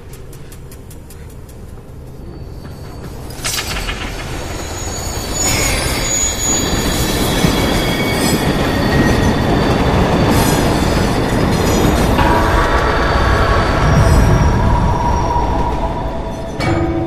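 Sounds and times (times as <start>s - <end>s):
subway train rumbling: 0.0s - 17.0s
wheels squealing: 0.1s - 17.0s.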